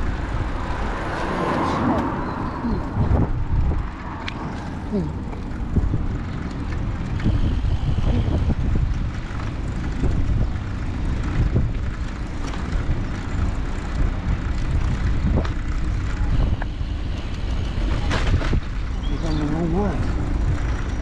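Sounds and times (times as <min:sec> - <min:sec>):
tyre noise on tarmac: 0:00.0 - 0:21.0
wind on the microphone: 0:00.0 - 0:21.0.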